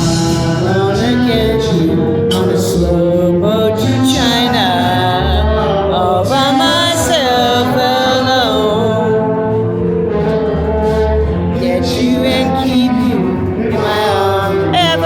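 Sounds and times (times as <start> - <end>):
singing with instrumental music: 0.0 - 15.0
steady bass notes: 0.0 - 15.0.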